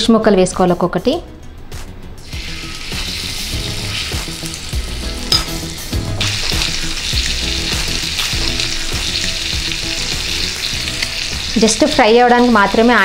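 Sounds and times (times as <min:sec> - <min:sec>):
fish sizzling in hot oil: 0:02.2 - 0:13.0.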